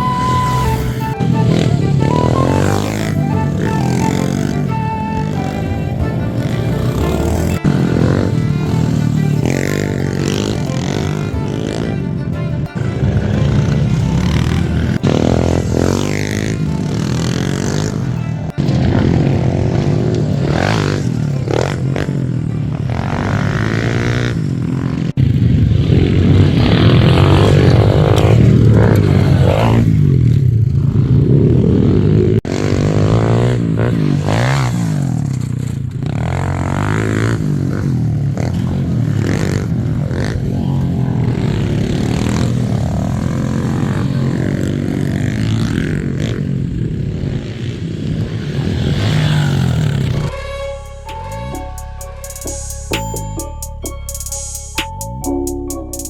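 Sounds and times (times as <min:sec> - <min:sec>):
dirt bike engine revving: 0:00.0 - 0:53.6.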